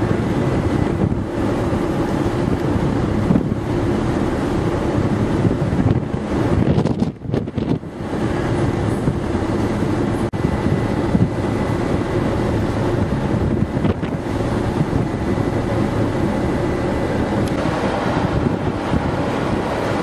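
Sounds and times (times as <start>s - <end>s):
ferry under way: 0.0s - 20.0s
sea: 0.0s - 20.0s
wind buffeting microphone: 0.0s - 20.0s.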